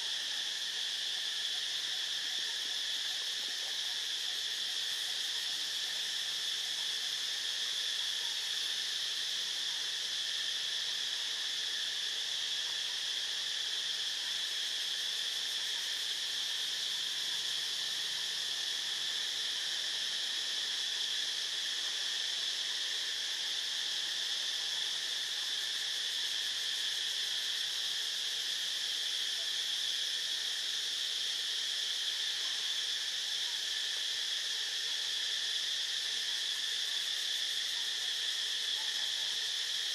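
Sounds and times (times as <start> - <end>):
chorus of insects droning: 0.0 - 39.9.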